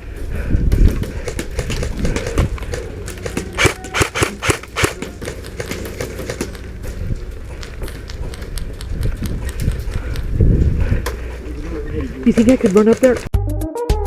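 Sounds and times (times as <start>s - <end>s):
steady low rumble: 0.0s - 12.5s.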